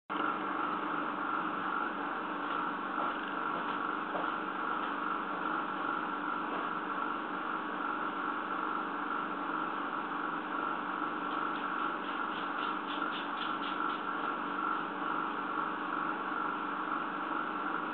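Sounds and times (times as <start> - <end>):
steady mechanical hum: 0.1 - 17.9.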